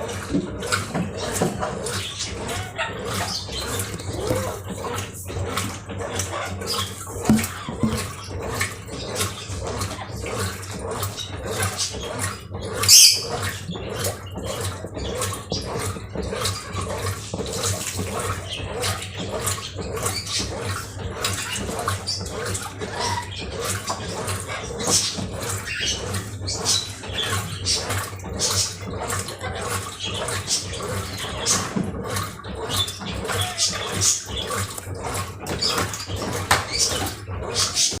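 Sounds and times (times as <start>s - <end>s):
washing machine motor hum: 0.0s - 38.0s
water and clothes sloshing: 0.0s - 38.0s.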